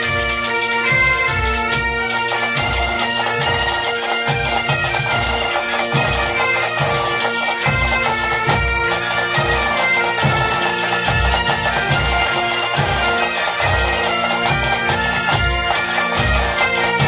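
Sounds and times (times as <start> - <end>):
bagpipes playing: 0.0 - 17.0.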